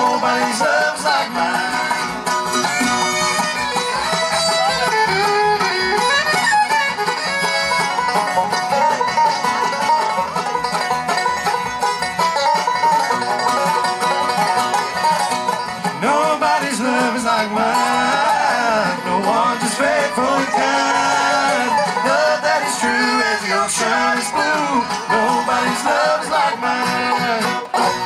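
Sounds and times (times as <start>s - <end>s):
acoustic guitar: 0.0s - 28.0s
fiddle: 0.0s - 28.0s
mandolin: 0.0s - 28.0s
sliding lap-style guitar: 0.0s - 28.0s
upright bass: 0.0s - 28.0s.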